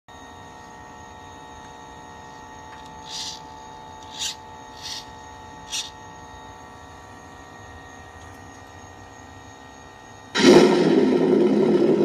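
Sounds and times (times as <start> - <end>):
steady electrical hum: 0.1 - 12.0.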